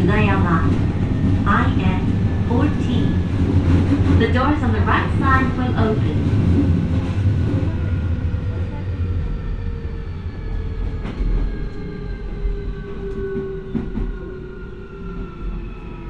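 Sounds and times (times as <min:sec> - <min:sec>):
train wheel rumble: 0:00.0 - 0:16.0.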